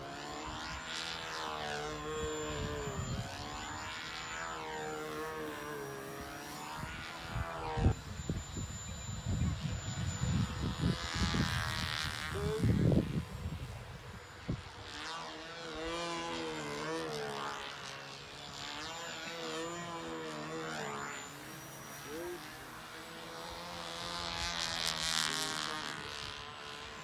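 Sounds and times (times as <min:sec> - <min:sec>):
model aeroplane motor buzzing: 0:00.0 - 0:27.0.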